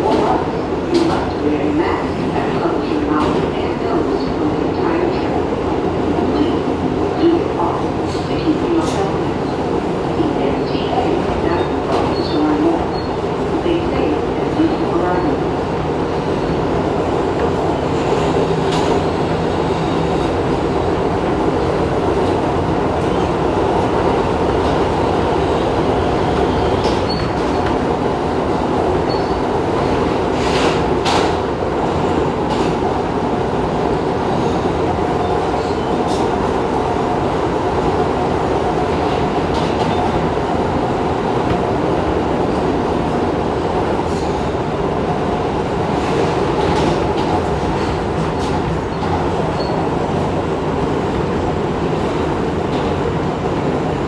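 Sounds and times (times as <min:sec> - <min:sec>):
subway train rumble and clatter: 0:00.0 - 0:54.0.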